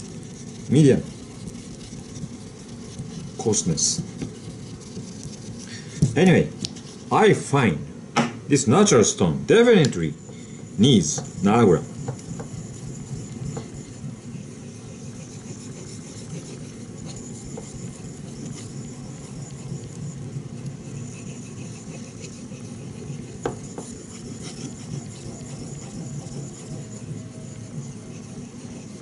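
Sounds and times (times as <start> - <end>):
knife scraping on whetstone: 0.0 - 7.1, 10.1 - 29.0.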